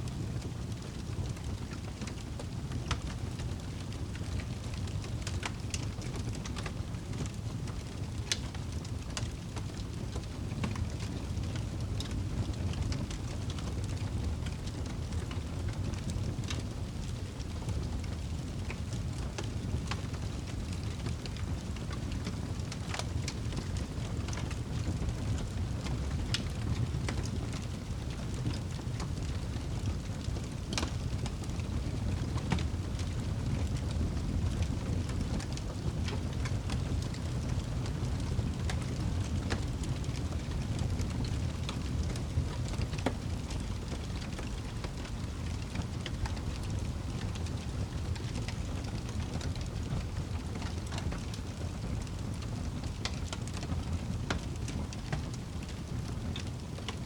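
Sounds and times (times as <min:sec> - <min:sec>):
wood fire roaring and crackling: 0:00.0 - 0:57.0.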